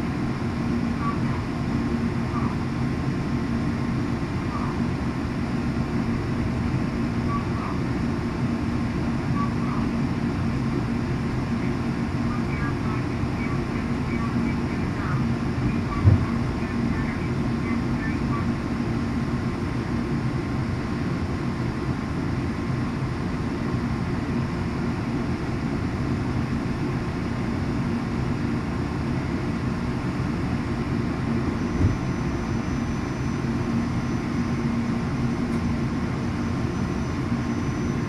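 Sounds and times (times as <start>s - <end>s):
train coach rumble and hum: 0.0s - 38.0s.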